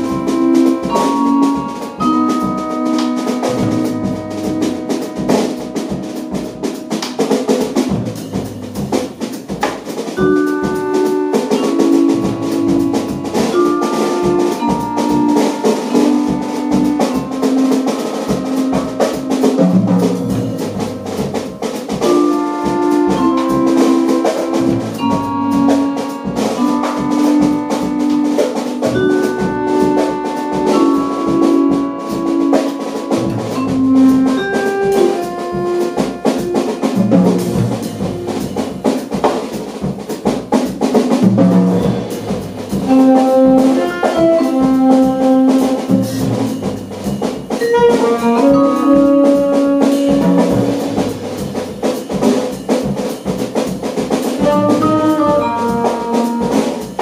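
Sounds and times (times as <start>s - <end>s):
double bass: 0.0s - 57.0s
drum kit: 0.0s - 57.0s
mallet percussion: 0.0s - 57.0s.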